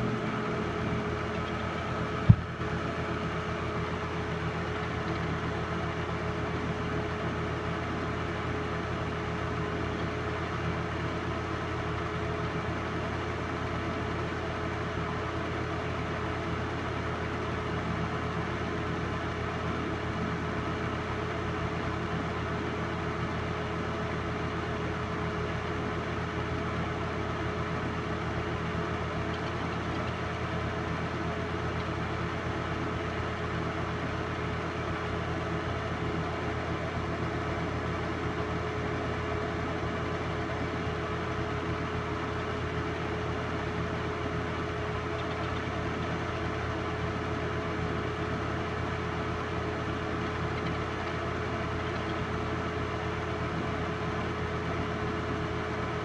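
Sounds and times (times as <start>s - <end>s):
constant whine: 0.0s - 20.0s, 24.9s - 56.0s
film projector motor hum: 0.0s - 56.0s.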